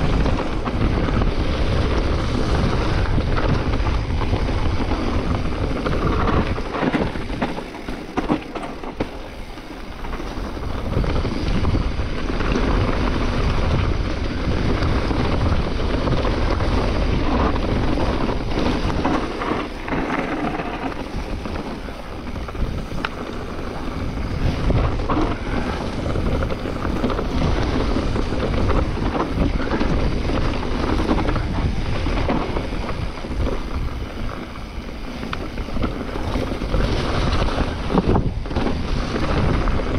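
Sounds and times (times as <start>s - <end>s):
tyre noise on dirt: 0.0s - 39.9s
wind buffeting microphone: 0.0s - 39.9s.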